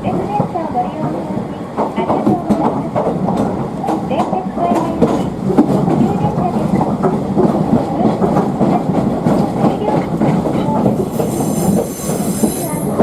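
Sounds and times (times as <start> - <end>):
train wheels clattering: 0.1 - 13.0.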